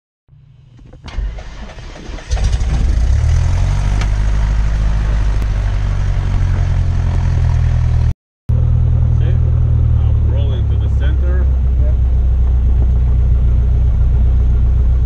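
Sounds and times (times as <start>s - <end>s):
aircraft engine starting and running: 0.4s - 15.0s.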